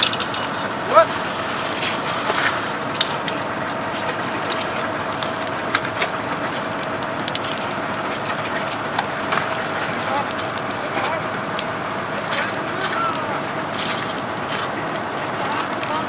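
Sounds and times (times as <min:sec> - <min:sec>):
burning grass crackling: 0:00.0 - 0:16.0.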